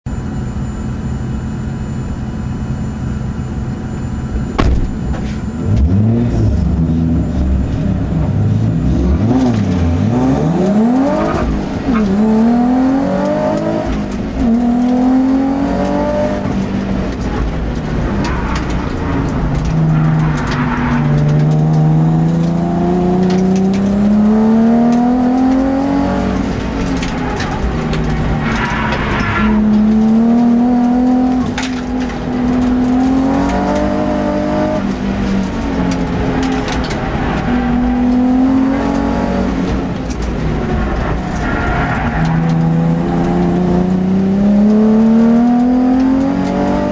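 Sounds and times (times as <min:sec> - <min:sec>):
race car engine revving: 0:04.6 - 0:46.9.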